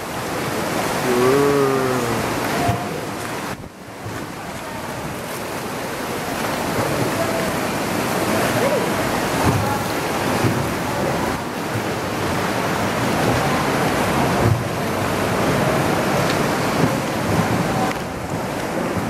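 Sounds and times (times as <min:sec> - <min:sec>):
waves washing around a boat: 0:00.0 - 0:19.0.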